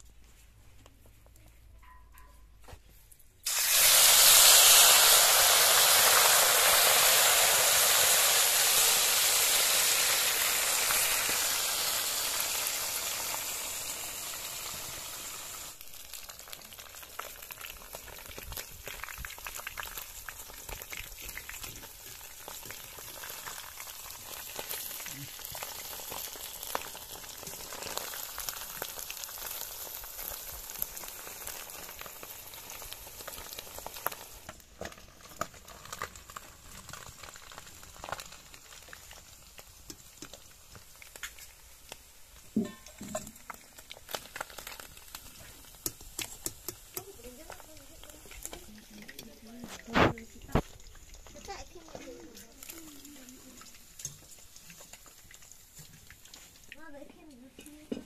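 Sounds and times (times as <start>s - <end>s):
oil crackling and popping: 3.1s - 58.0s
fish sizzling in hot oil: 3.4s - 58.0s.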